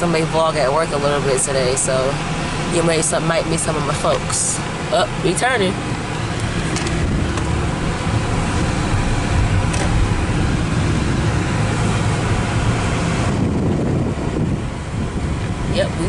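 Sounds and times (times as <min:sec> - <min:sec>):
tyre and engine rumble: 0:00.0 - 0:16.0
wind rushing past car window: 0:00.1 - 0:16.0.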